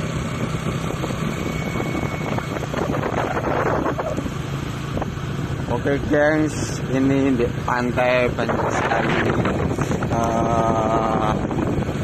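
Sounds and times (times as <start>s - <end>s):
small engine running: 0.0s - 12.0s
wind buffeting microphone: 0.0s - 12.0s.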